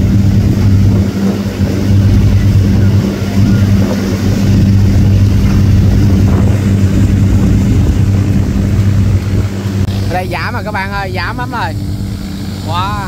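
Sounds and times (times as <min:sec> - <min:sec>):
boat engine humming: 0:00.0 - 0:13.0
rush of wind and water: 0:00.0 - 0:13.0.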